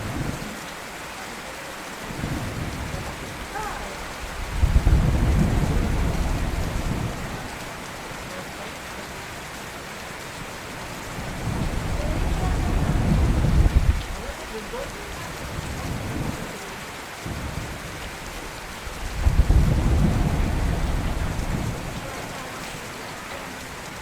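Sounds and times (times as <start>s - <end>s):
rain falling: 0.0s - 24.0s
thunder rumbling: 2.1s - 16.6s, 17.2s - 22.9s.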